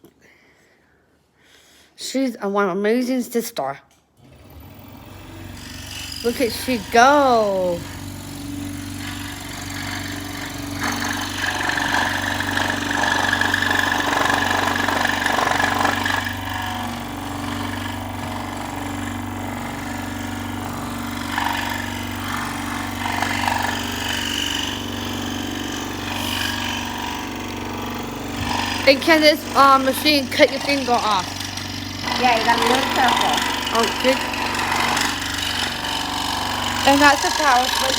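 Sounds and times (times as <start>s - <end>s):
scroll saw cutting wood: 4.2s - 37.9s.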